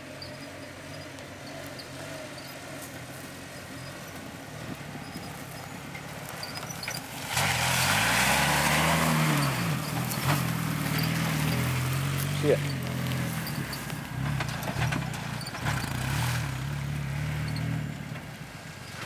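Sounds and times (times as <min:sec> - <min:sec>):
truck engine revving: 0:00.0 - 0:19.0
tyres churning through mud: 0:00.0 - 0:19.0.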